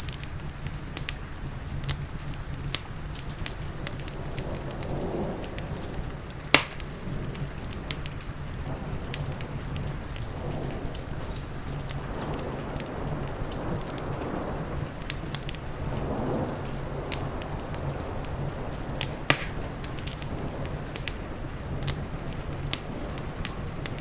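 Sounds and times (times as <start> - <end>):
steady rain: 0.0 - 24.0
wood fire crackling and popping: 0.0 - 24.0.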